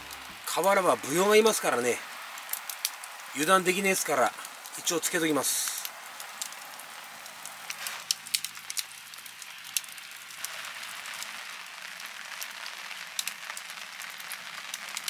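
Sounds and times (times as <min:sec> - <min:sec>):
raindrops ticking close by: 0:00.0 - 0:15.0
steady rain: 0:00.0 - 0:15.0.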